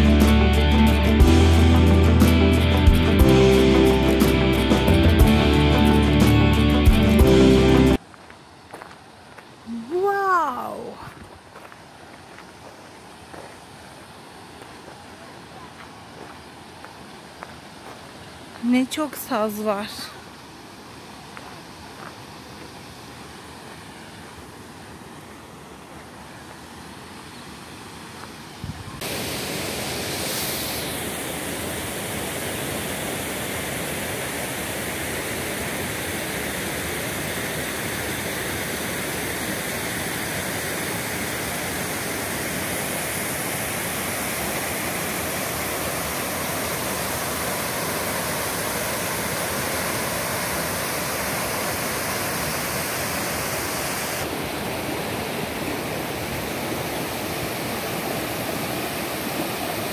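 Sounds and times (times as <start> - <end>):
stream rushing over boulders: 7.9 - 59.9.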